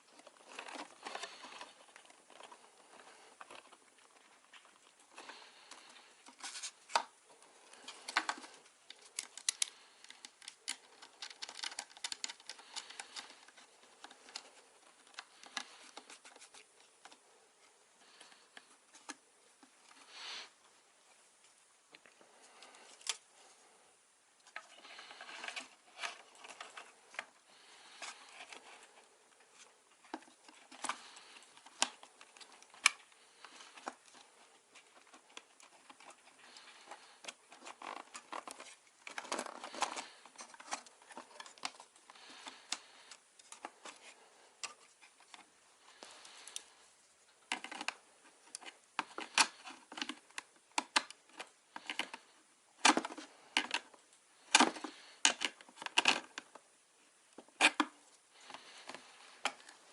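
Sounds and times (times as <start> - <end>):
rustling of plastic pieces: 0.0 - 17.3, 24.4 - 59.9.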